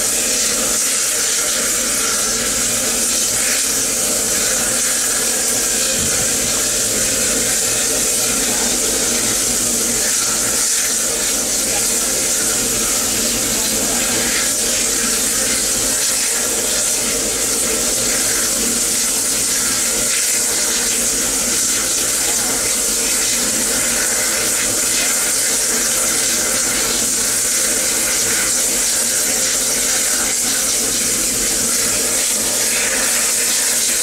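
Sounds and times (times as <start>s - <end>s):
water rushing from pipe into tank: 0.0s - 34.0s.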